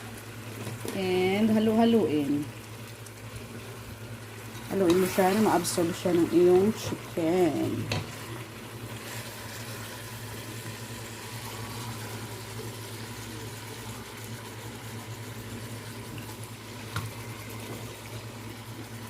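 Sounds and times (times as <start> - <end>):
chicken sizzling in a pot: 0.0 - 19.0.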